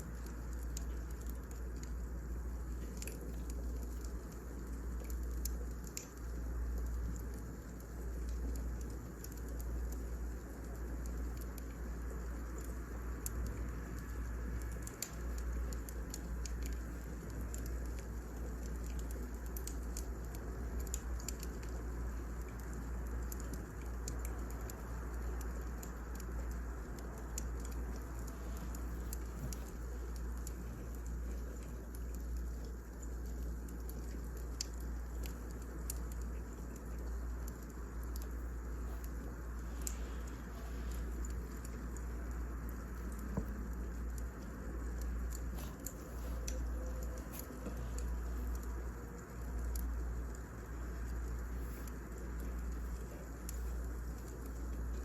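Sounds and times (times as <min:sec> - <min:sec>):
firewood crackling: 0:00.0 - 0:55.0.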